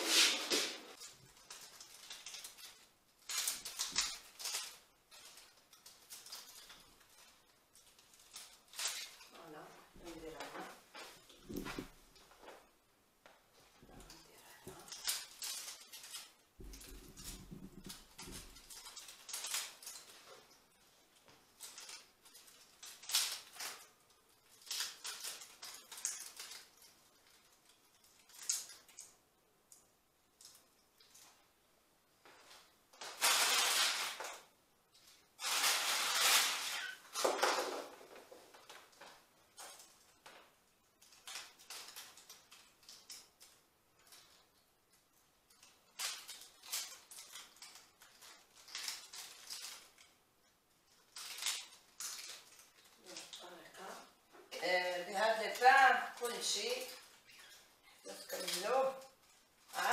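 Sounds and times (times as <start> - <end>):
ivy rustling and crackling: 0.0 - 59.9.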